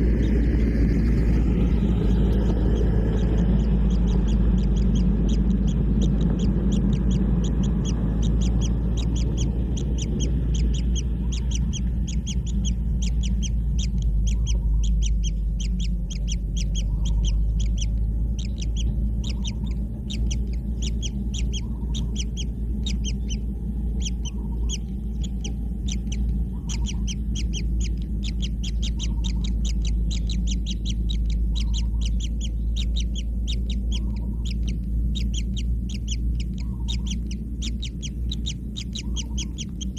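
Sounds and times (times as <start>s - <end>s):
chicks rasping begging calls: 0.0s - 39.9s
low rumble: 0.0s - 39.9s.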